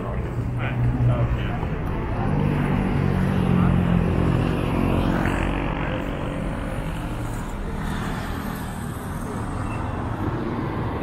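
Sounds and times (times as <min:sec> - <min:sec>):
road traffic rumble: 0:00.0 - 0:11.0
vehicle engine running close: 0:00.0 - 0:11.0.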